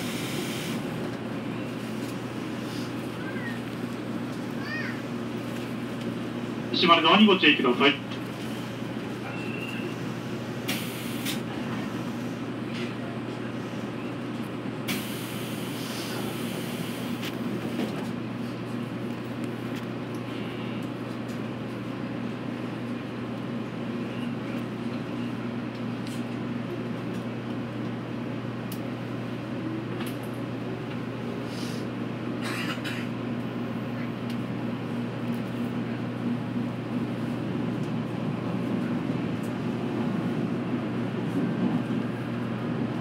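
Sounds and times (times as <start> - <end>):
train carriage running hum: 0.0 - 43.0.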